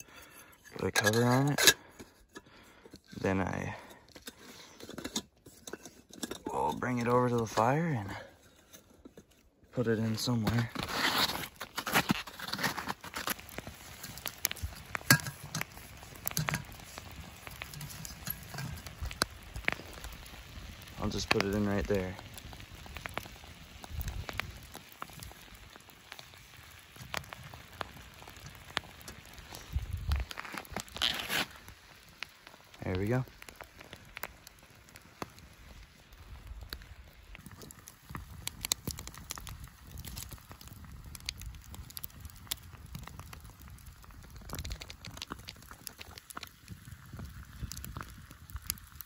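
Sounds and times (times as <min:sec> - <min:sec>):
campfire crackling and popping: 0:00.0 - 0:49.0
low fire rumble: 0:00.0 - 0:49.0.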